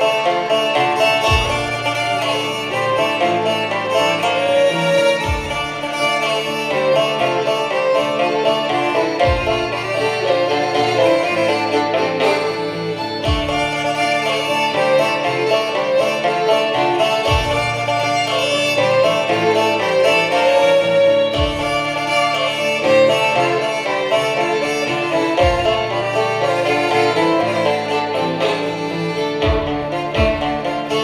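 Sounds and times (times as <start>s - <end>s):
banjo: 0.0s - 31.0s
fiddles playing a tune: 0.0s - 31.0s.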